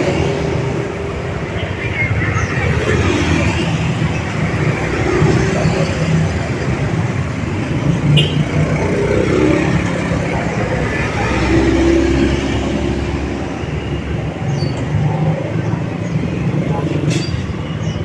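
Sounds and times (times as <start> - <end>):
murmur of voices: 0.0 - 18.0
vehicle engines passing: 0.0 - 18.0.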